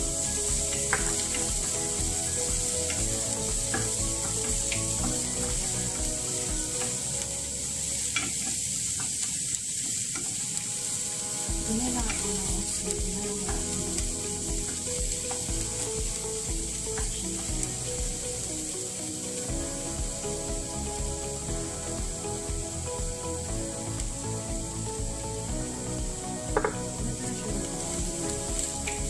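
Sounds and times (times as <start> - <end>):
onions sizzling in oil: 0.0 - 29.0.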